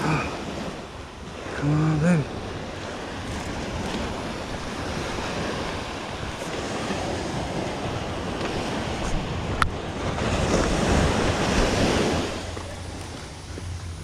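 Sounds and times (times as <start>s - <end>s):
ocean surf breaking: 0.0s - 14.0s
wind buffeting microphone: 0.4s - 14.0s.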